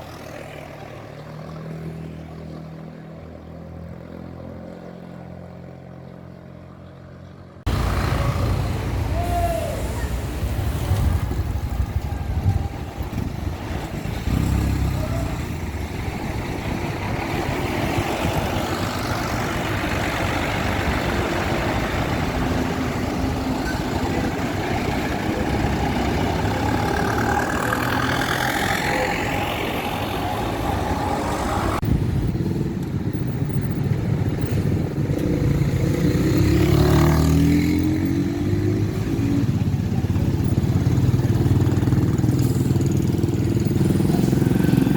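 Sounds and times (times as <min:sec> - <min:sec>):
heavy vehicles passing: 0:00.0 - 0:44.9.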